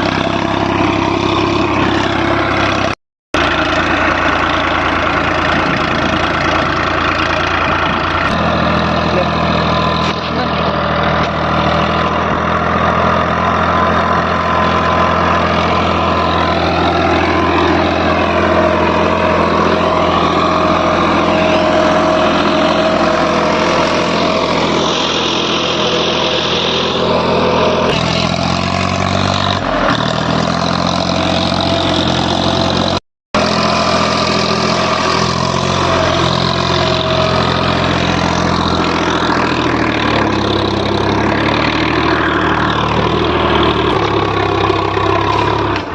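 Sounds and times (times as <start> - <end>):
tractor diesel engine idling: 0.0 - 45.9.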